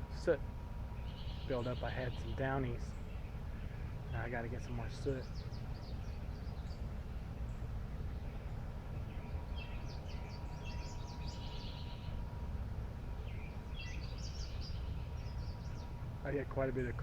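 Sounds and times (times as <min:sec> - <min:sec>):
small songbirds chirping: 0:00.0 - 0:17.0
steady low rumble: 0:00.0 - 0:17.0.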